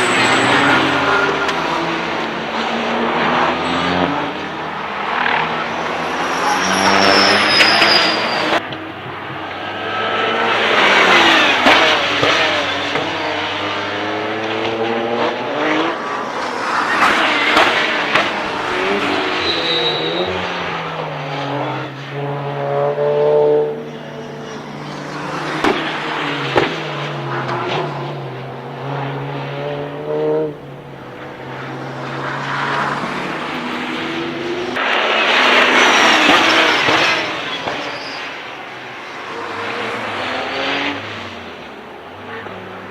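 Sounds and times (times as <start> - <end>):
race cars passing at speed: 0.0 - 42.9.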